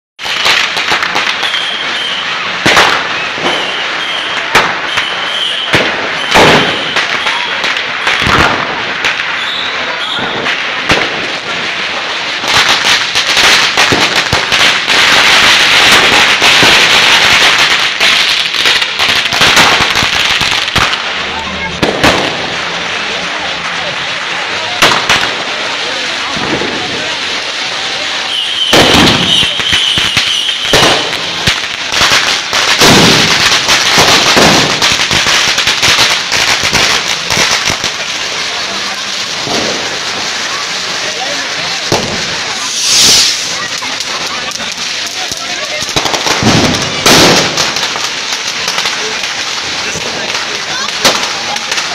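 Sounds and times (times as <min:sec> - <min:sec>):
firecrackers crackling: 0:00.2 - 0:51.9.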